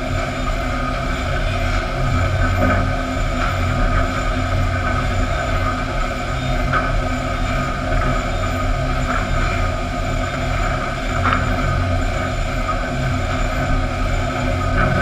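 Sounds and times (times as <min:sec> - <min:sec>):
conveyor machinery drone: 0:00.0 - 0:15.0.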